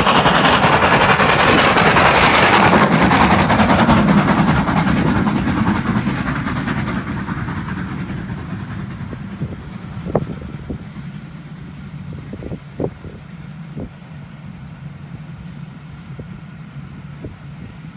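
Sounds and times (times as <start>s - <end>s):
steam locomotive exhaust beats: 0.0s - 17.9s
train rumble: 0.0s - 17.9s.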